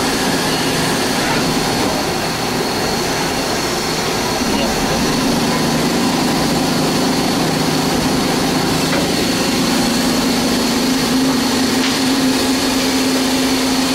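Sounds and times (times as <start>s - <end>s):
lathe machine humming and whining: 0.0s - 13.9s.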